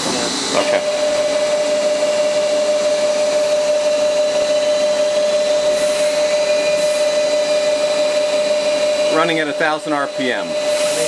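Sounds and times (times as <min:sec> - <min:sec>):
milling motor running: 0:00.0 - 0:11.0.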